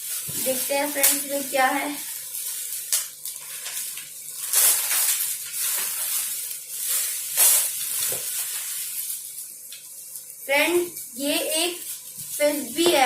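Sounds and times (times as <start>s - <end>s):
gift wrapping crinkling: 0.0s - 13.0s.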